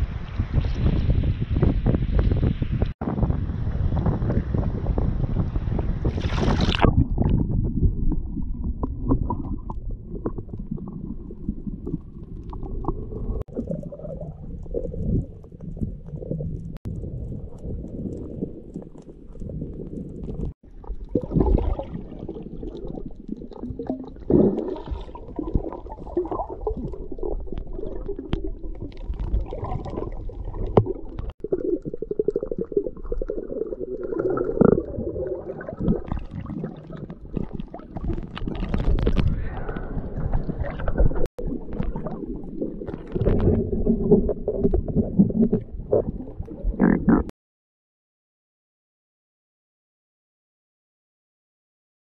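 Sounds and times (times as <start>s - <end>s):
water rumbling and gurgling underwater: 0.0s - 47.3s.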